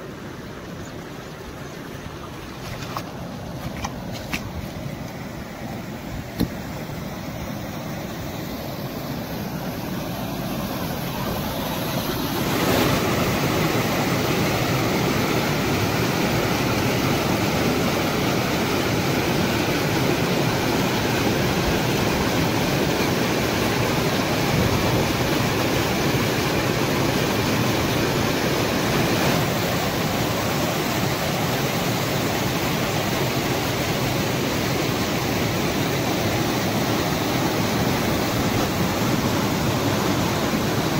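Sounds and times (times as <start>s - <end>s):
stream rushing over rocky rapids: 0.0s - 40.9s.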